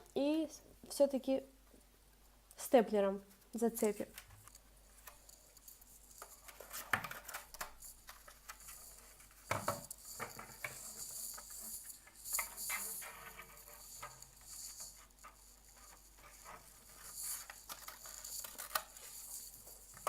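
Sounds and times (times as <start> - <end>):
paper rustling: 3.8 - 20.0.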